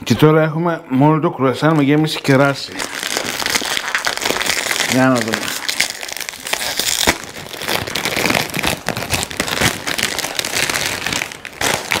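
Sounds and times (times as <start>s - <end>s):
plastic wrapper crackling: 1.6s - 12.0s.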